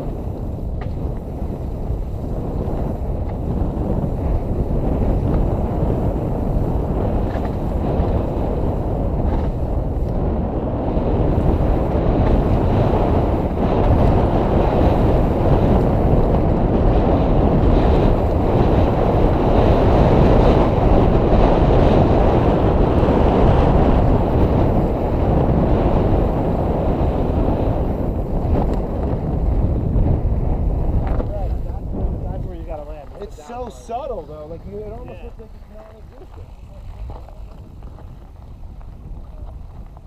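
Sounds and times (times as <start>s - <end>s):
tyre and trail rumble: 0.0s - 40.0s
wind buffeting microphone: 0.0s - 40.0s.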